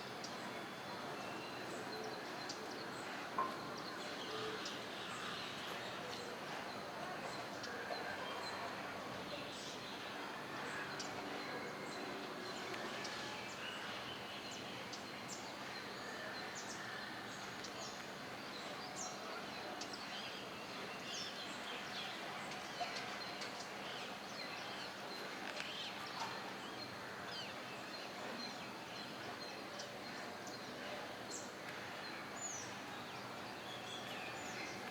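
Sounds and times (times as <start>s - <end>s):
steady outdoor hiss: 0.0s - 34.9s.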